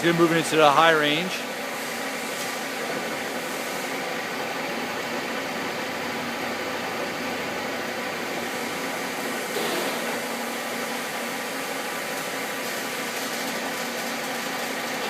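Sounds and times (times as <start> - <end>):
lathe motor humming and whining: 0.0 - 15.0.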